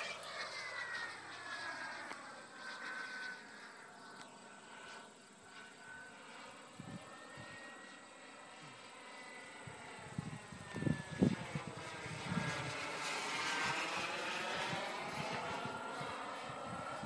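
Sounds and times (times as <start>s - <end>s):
distant model jet turbine whining: 0.0s - 17.0s.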